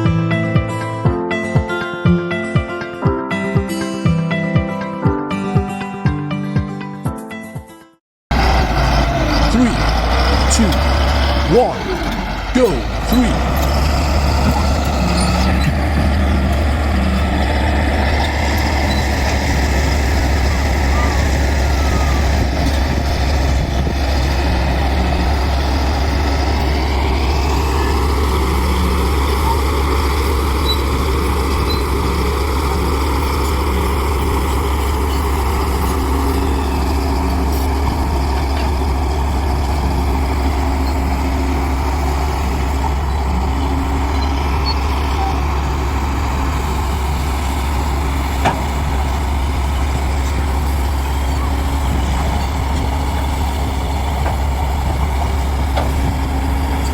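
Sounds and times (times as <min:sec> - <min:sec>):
heavy diesel engine rumbling: 0:08.3 - 0:56.9.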